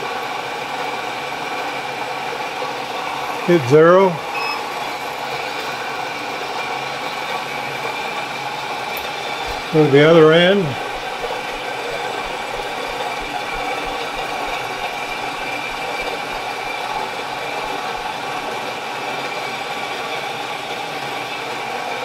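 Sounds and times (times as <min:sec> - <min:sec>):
milling machine humming: 0:00.0 - 0:22.0.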